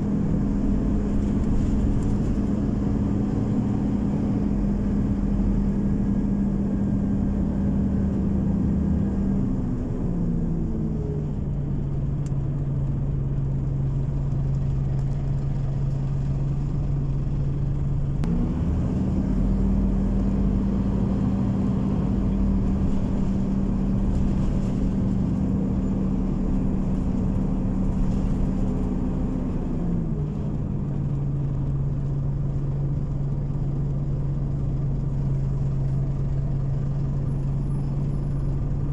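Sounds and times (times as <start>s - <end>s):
bus engine hum: 0.0s - 38.9s
low road rumble: 0.0s - 38.9s.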